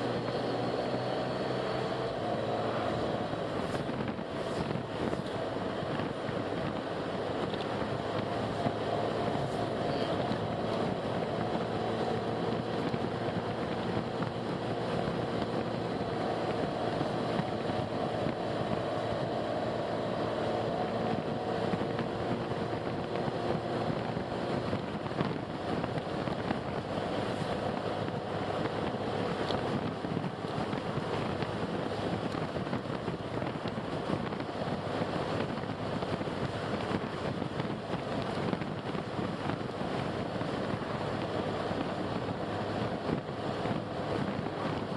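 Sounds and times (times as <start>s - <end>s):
faint engine drone: 0.0s - 44.9s
road and wind noise: 0.0s - 44.9s.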